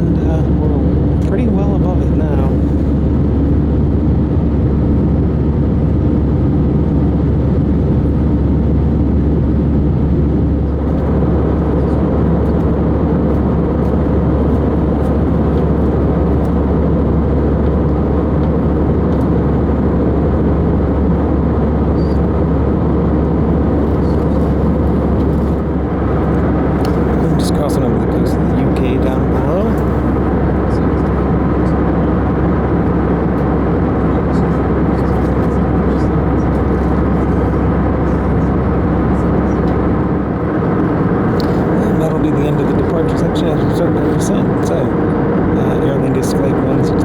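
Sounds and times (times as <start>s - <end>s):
airplane cabin engine and airflow: 0.0s - 47.0s
low hum: 0.0s - 47.0s.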